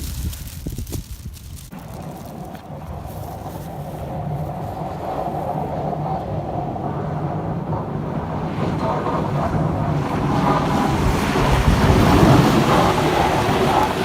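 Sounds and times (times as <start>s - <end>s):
wind gusting against microphone: 0.0s - 14.0s.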